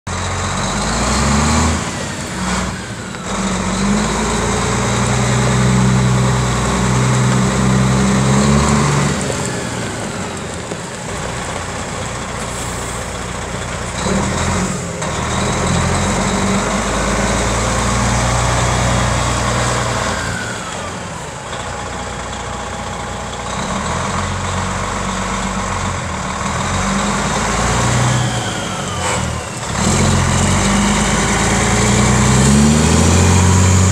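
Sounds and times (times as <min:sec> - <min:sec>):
truck diesel engine running: 0:00.1 - 0:33.9.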